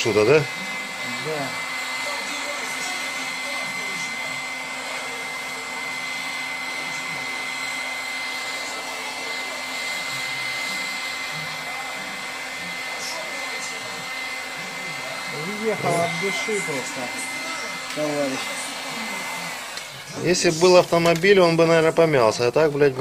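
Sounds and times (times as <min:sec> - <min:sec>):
heat gun blowing air: 0:00.0 - 0:22.3.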